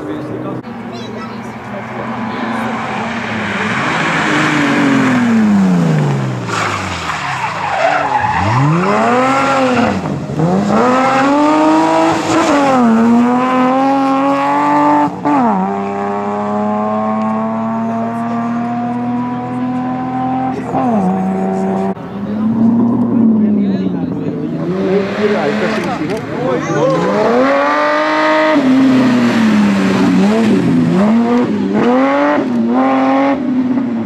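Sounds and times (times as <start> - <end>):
tyres skidding: 0.0 - 34.0
rally car engine revving: 1.5 - 34.0.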